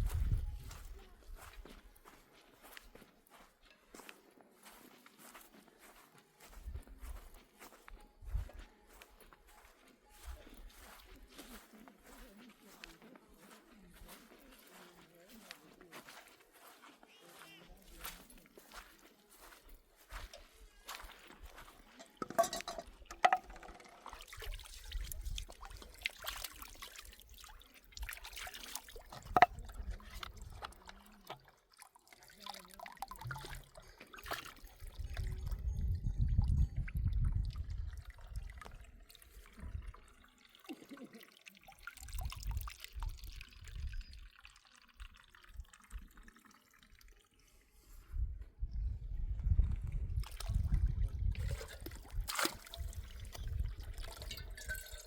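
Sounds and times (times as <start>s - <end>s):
water trickling and dripping: 4.6s - 48.0s, 48.8s - 55.0s.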